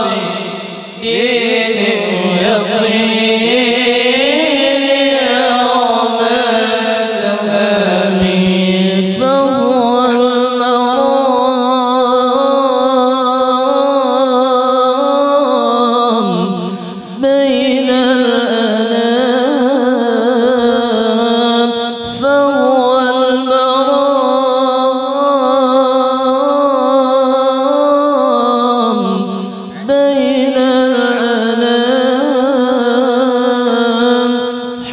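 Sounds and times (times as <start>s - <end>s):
person singing devotional chant: 0.0s - 34.9s.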